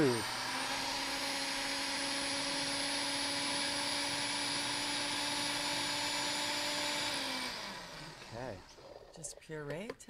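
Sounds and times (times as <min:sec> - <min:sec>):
blender motor running: 0:00.0 - 0:09.4.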